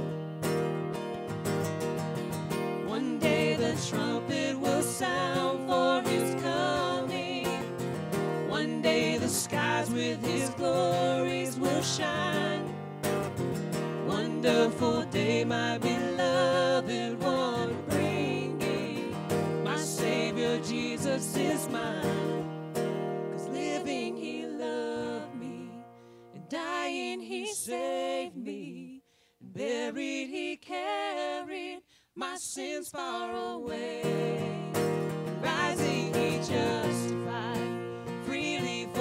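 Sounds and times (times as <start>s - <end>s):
acoustic guitar: 0.0s - 39.0s
person singing hymn: 2.9s - 7.7s, 8.5s - 12.7s, 14.1s - 19.1s, 19.7s - 22.4s, 23.4s - 39.0s.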